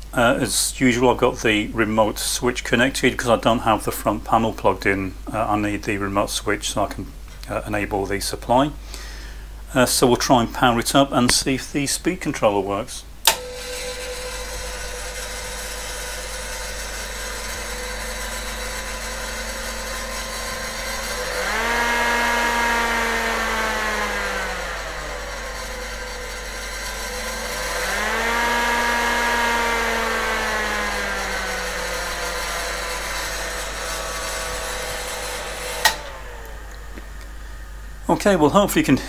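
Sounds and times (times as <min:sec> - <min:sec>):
cooling fan whirring: 0:00.0 - 0:39.0.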